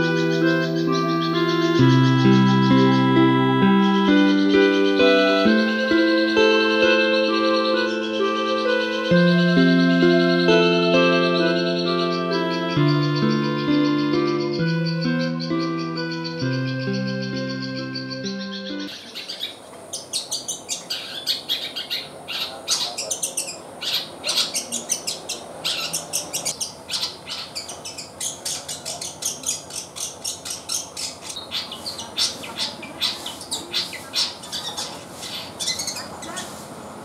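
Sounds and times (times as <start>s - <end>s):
bird chirping high: 0.0s - 36.6s.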